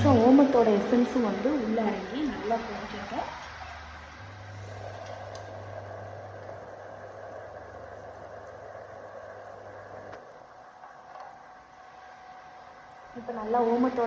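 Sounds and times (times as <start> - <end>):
induction stove hum and whine: 0.0 - 14.0.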